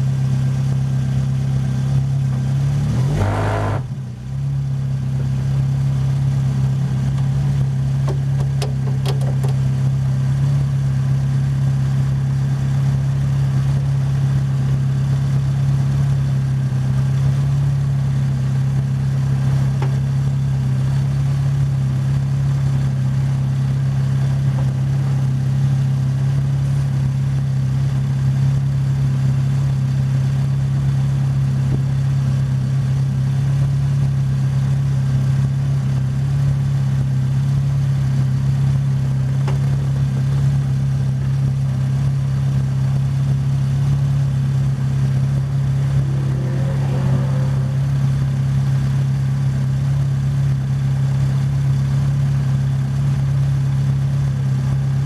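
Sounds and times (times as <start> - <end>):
race car engine idling: 0.0 - 2.9, 3.6 - 55.0.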